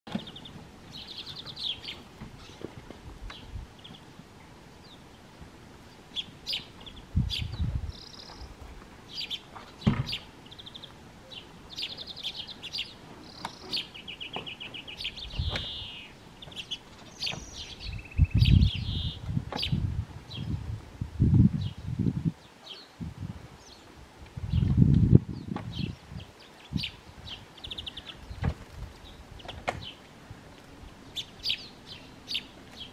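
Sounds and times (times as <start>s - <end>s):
songbirds chirping: 0.1s - 32.9s.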